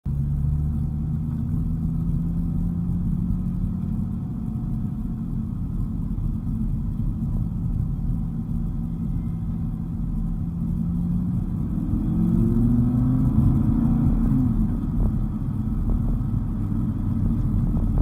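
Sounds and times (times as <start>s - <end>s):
road rumble: 0.0s - 18.0s
car engine droning: 0.1s - 18.0s.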